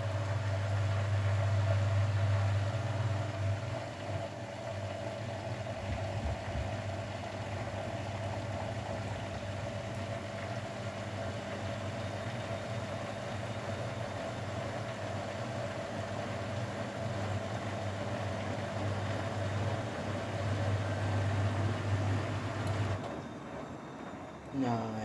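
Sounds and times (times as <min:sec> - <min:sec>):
gurgling water: 0:00.0 - 0:23.6
drain pump electric hum: 0:00.0 - 0:25.0.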